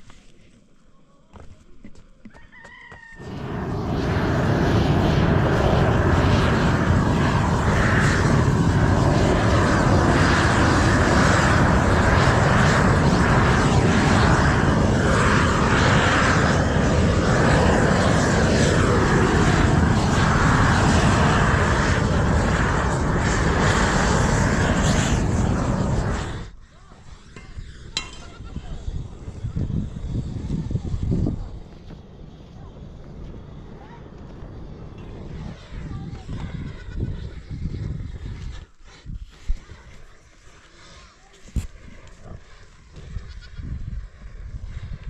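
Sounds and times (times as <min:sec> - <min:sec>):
gas torch burning: 0:03.2 - 0:45.0.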